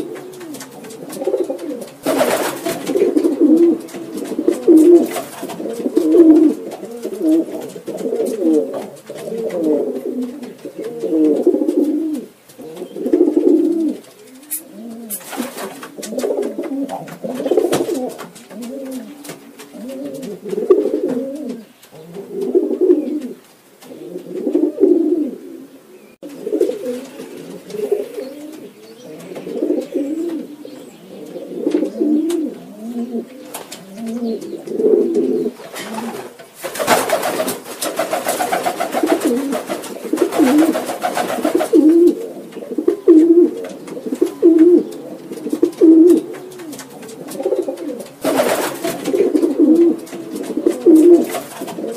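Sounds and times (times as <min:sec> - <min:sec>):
rustling noise: 0:00.0 - 0:24.8, 0:31.6 - 0:51.9
pigeons cooing: 0:00.0 - 0:51.9.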